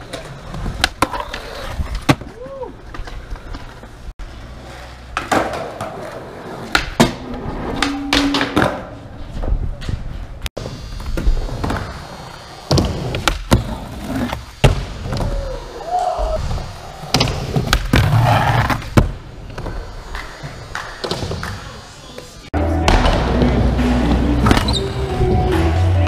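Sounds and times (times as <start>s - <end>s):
skateboard wheels rolling: 0.0s - 26.0s.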